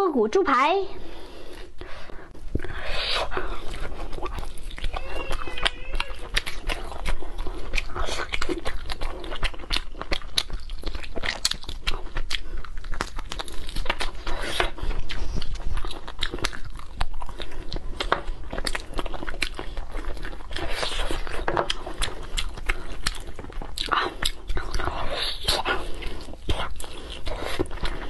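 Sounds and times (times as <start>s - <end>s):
person chewing close to microphone: 1.0s - 28.0s.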